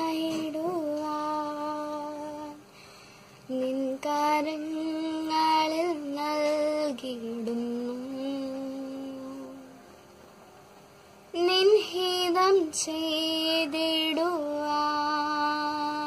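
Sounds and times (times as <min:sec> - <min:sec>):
girl singing unaccompanied: 0:00.0 - 0:02.7, 0:03.4 - 0:09.9, 0:11.3 - 0:16.0.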